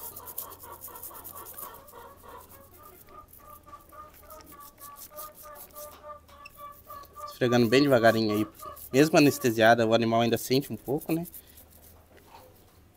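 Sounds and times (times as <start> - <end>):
hens clucking: 0.0 - 11.3
brush scrubbing hoof: 0.0 - 12.8.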